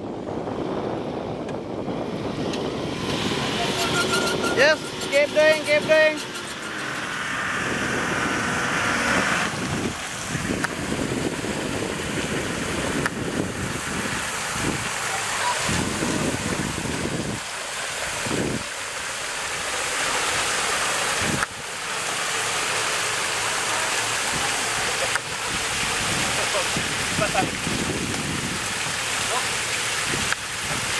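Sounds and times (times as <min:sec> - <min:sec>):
wind buffeting microphone: 0:00.0 - 0:19.6, 0:20.9 - 0:21.9, 0:24.2 - 0:30.9
muddy water splashing: 0:02.2 - 0:30.9.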